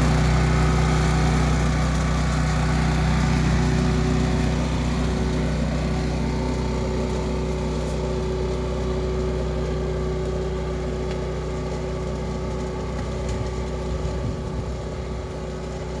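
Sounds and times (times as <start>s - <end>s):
leaf vacuum engine running: 0.0s - 16.0s.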